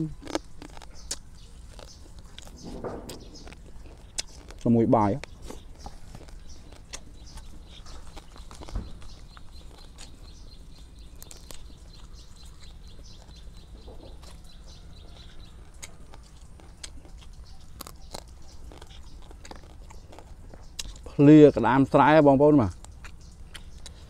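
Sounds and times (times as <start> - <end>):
person eating and chewing: 0.0 - 22.0, 22.6 - 24.0
bird chirping: 0.0 - 24.0.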